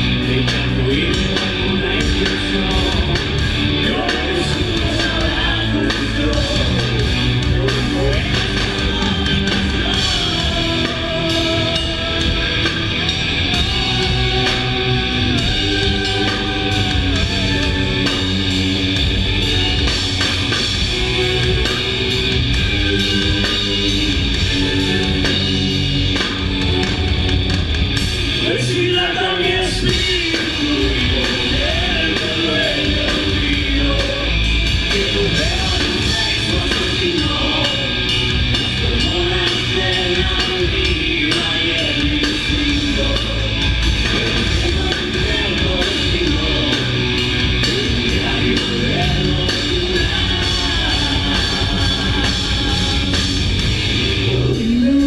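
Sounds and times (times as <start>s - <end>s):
person singing: 0.0s - 27.3s, 28.4s - 55.0s
rock band playing: 0.0s - 55.0s.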